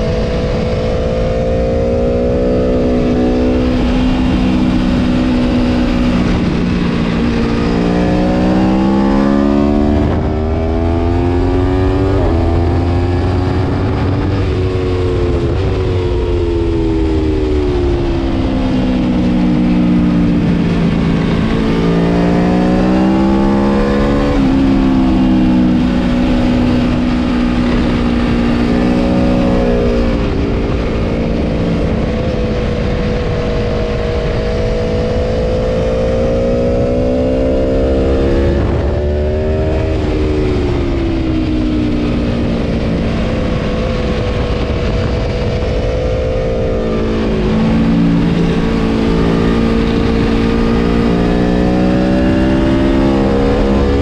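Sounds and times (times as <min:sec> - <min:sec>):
motorcycle engine revving: 0:00.0 - 0:54.0
wind rushing on microphone: 0:00.0 - 0:54.0.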